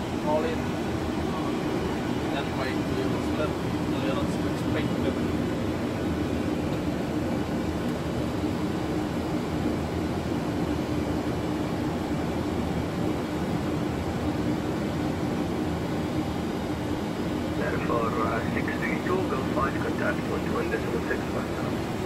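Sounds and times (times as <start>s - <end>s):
airflow and engine rush: 0.0s - 22.0s
faint steady hum: 0.0s - 22.0s.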